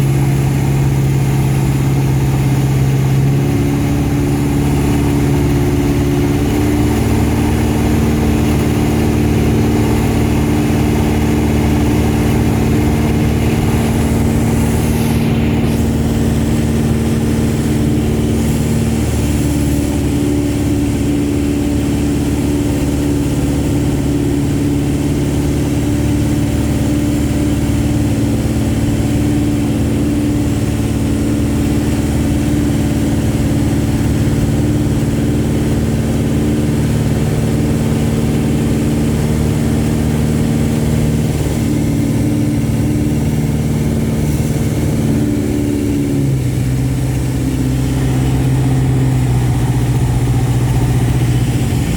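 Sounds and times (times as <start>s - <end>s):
aircraft engine and propeller drone: 0.0s - 51.9s.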